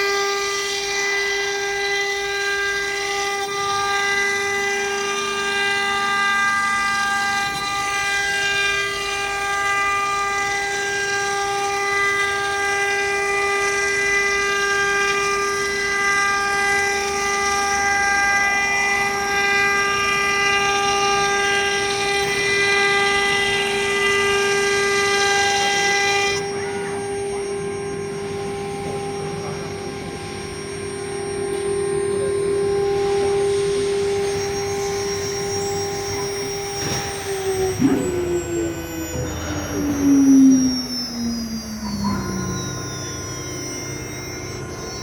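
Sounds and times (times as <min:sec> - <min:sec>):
wood router whining: 0:00.0 - 0:45.0.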